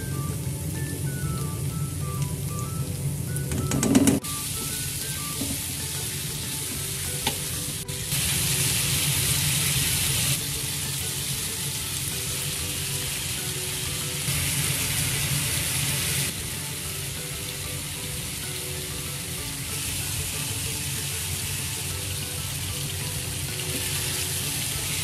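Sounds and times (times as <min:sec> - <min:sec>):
chicken frying in hot oil: 0:00.0 - 0:25.0.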